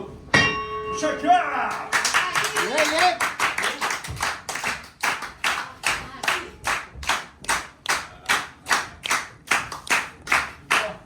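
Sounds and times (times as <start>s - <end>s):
rhythmic clapping in unison: 1.7s - 11.0s.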